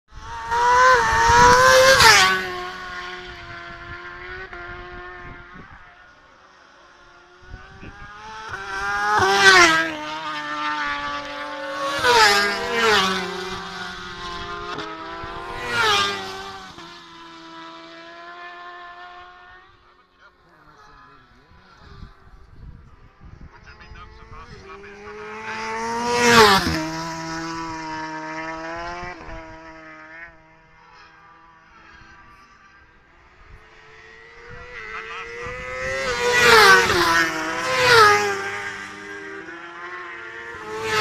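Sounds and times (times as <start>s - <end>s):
racing motorcycles passing: 0.1s - 41.0s.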